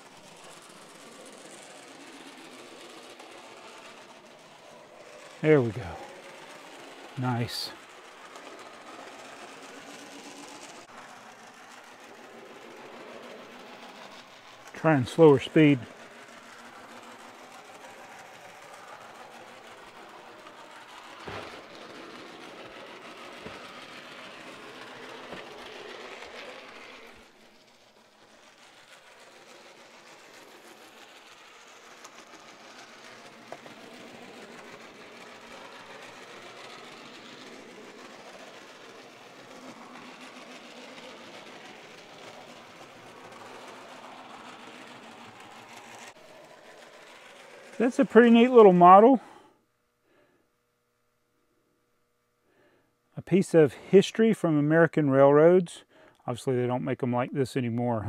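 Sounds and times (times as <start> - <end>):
wheels clicking on rails: 0.0 - 49.3
model train motor whir: 0.0 - 49.6.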